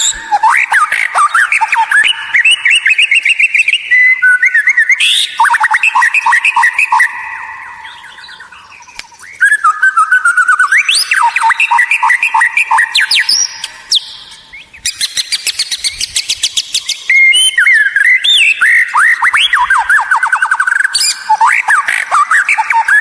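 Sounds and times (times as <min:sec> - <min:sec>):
bird song whistling: 0:00.0 - 0:23.0.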